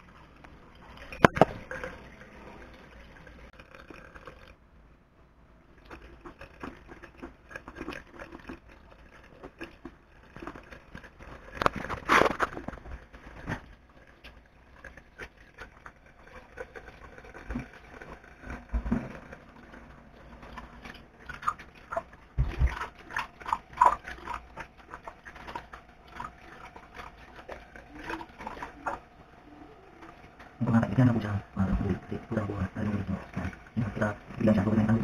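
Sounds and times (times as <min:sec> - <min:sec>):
tap water running: 0:00.0 - 0:04.6, 0:05.6 - 0:35.0
wet squelches and splashes: 0:05.7 - 0:35.0.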